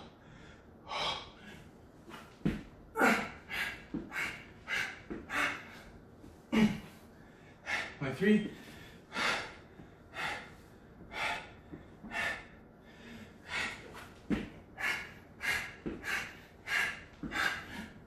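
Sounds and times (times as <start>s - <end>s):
man breathing hard: 0.0s - 18.0s.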